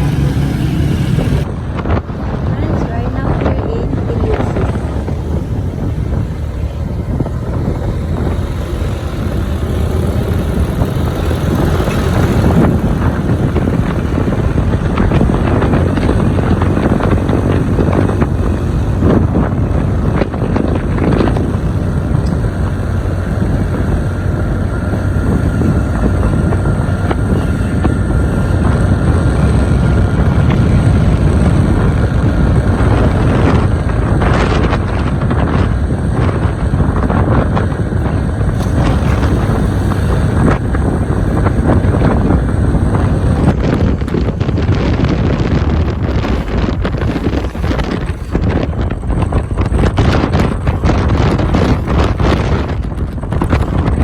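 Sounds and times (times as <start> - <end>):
road noise: 0.0 - 54.0
scooter engine running: 0.0 - 54.0
wind on microphone: 0.0 - 54.0.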